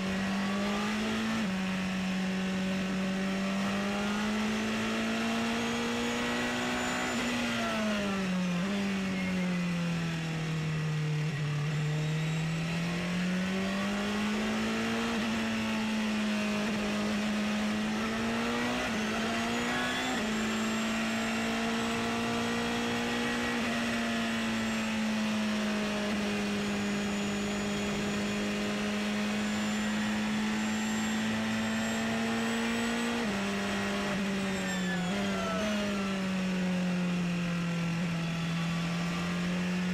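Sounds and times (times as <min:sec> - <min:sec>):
racing car engine running hard: 0:00.0 - 0:39.9.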